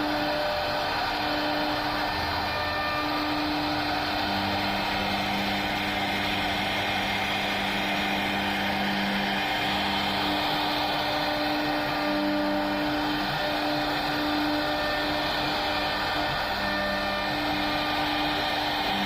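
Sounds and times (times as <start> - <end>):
cnc router whine and hiss: 0.0 - 19.0.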